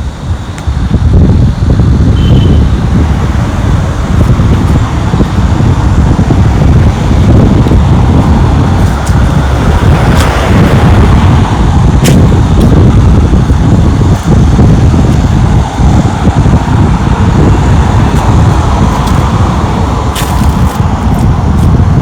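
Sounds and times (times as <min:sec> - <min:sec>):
road traffic rumble: 0:00.0 - 0:22.0
wind buffeting microphone: 0:00.0 - 0:22.0
vehicle passing: 0:01.5 - 0:22.0.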